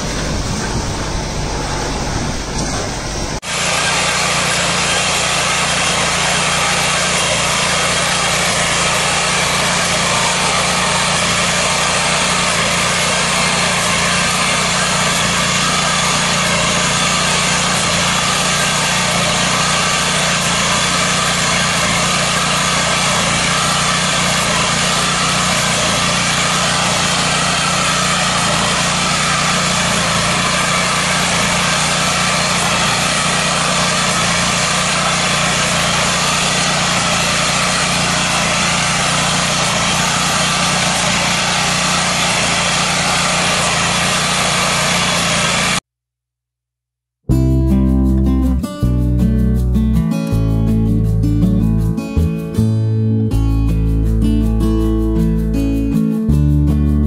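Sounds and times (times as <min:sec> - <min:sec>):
different machine sound: 0:00.0 - 0:45.8
small engine running under load: 0:00.0 - 0:45.8.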